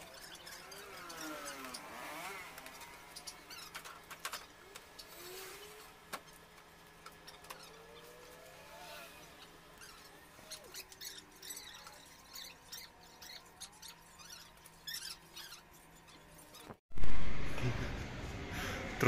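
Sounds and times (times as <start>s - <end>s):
faint squeaky chirps: 0.0s - 16.8s.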